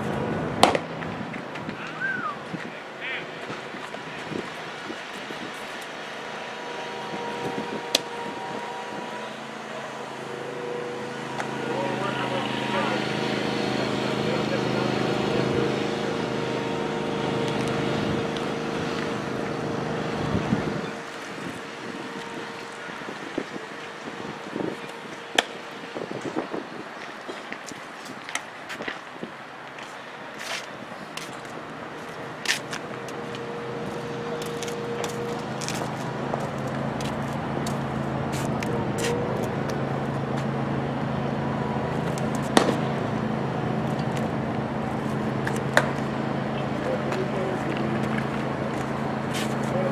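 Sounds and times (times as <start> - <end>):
low mechanical hum: 0.0 - 49.9
utility vehicle engine running: 2.7 - 28.7, 29.6 - 49.9.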